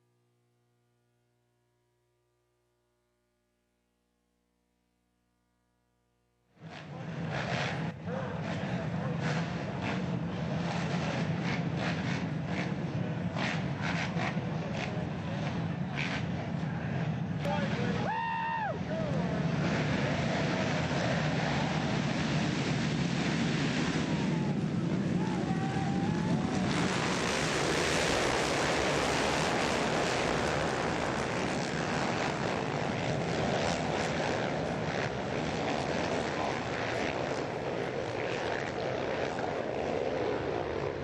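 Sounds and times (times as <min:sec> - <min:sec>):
motocross bikes racing: 0:06.6 - 0:41.0.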